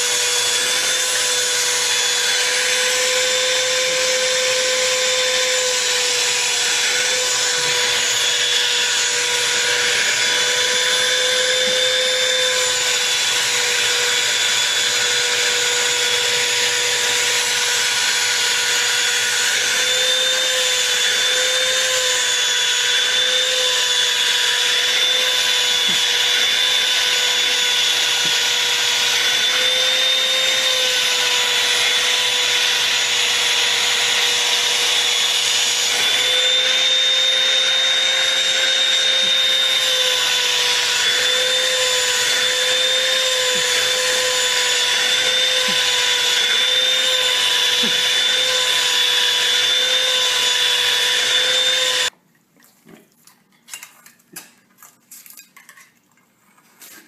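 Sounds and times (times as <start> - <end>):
vacuum cleaner running: 0.0 - 52.1.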